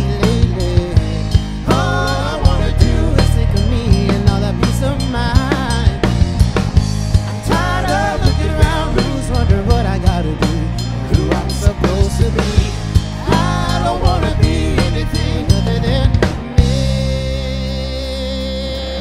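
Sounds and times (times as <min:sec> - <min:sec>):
bass: 0:00.0 - 0:19.0
drum kit: 0:00.0 - 0:19.0.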